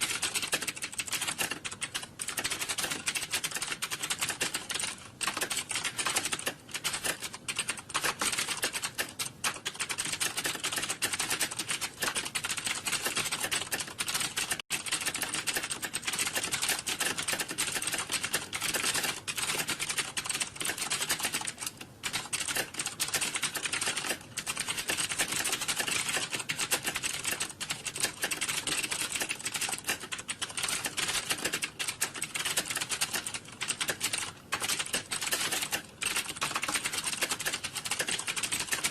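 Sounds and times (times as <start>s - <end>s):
keyboard typing: 0.0s - 38.9s.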